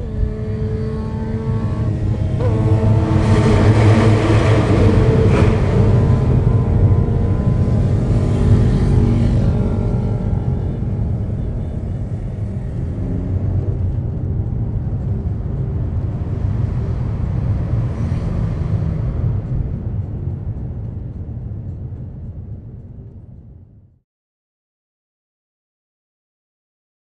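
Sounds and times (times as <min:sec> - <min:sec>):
car engine: 0:00.0 - 0:23.8
road rumble: 0:00.0 - 0:23.9
wind: 0:00.0 - 0:23.9.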